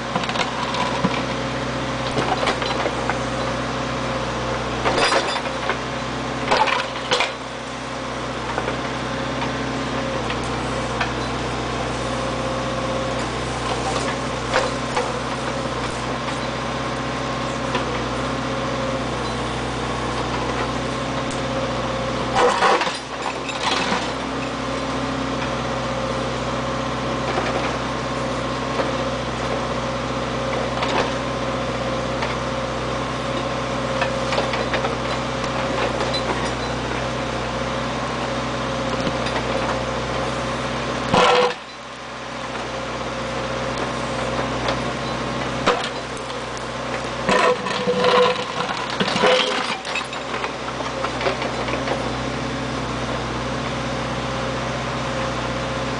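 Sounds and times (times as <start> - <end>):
backhoe engine running: 0.0 - 55.9.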